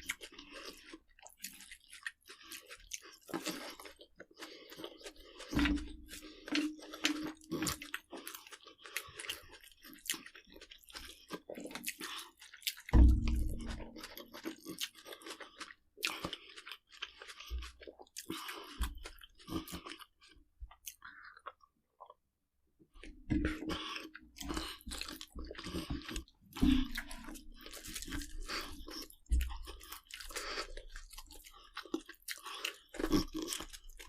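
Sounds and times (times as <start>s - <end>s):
person chewing crunchy food: 0.0s - 22.2s, 22.9s - 34.0s.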